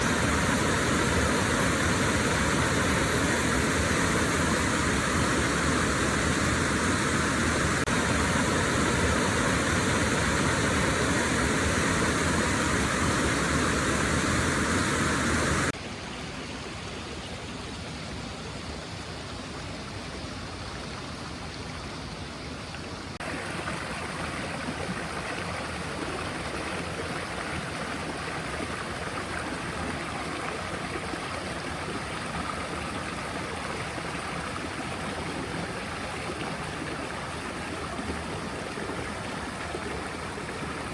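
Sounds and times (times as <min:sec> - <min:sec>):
river water rushing: 0:00.0 - 0:15.8, 0:23.2 - 0:40.9.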